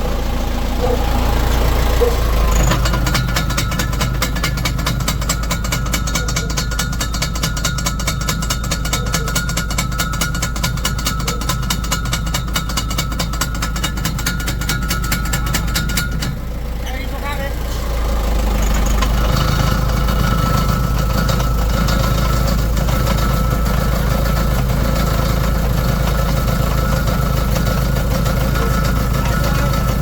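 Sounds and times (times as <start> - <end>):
truck engine hum: 0.0 - 30.0
transmission knocking: 0.8 - 16.6, 18.3 - 30.0.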